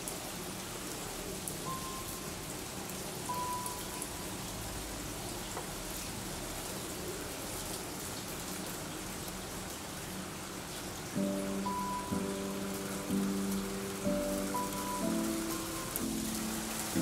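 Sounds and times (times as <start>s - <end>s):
light rain hissing and pattering: 0.0s - 17.0s.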